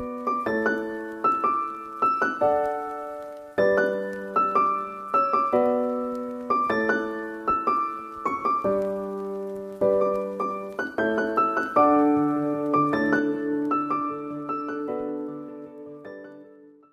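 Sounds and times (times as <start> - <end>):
piano notes and chords: 0.0 - 16.9.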